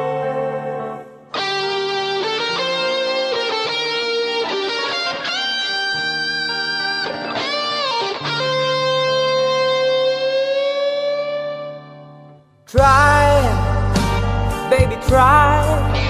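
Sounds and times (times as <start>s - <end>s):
electric guitar slow melodic lead: 0.0s - 16.0s.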